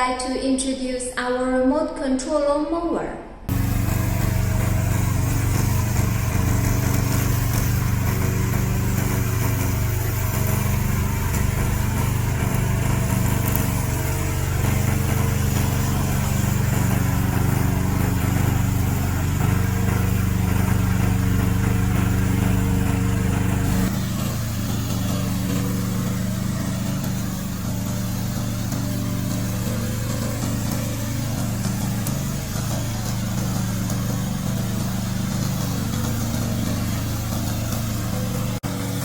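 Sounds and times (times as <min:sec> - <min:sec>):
lawn mower engine running: 0:03.5 - 0:39.0.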